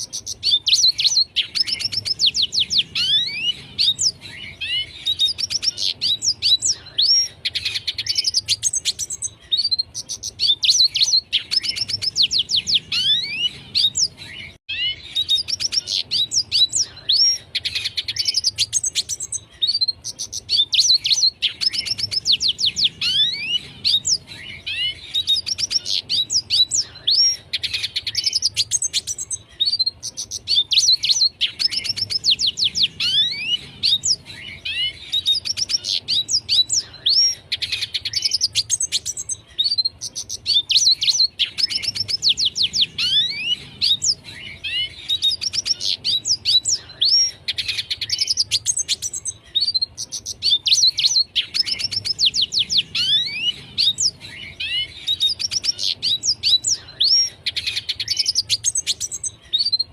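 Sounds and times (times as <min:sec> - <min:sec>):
finch singing rapid twittering: 0:00.0 - 0:59.9.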